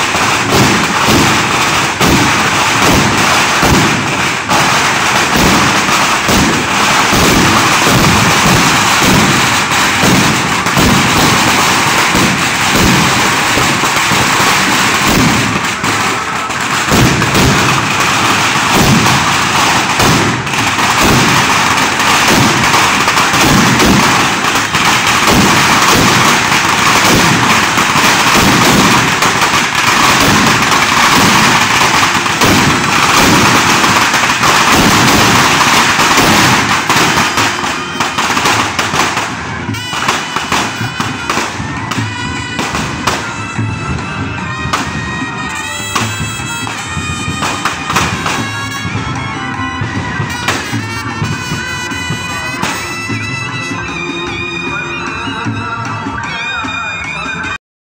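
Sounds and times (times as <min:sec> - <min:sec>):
firecrackers crackling: 0:00.0 - 0:57.6.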